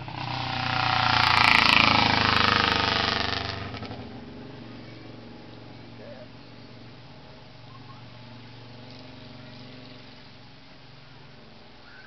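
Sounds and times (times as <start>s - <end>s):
vehicle driving past: 0.0s - 12.0s.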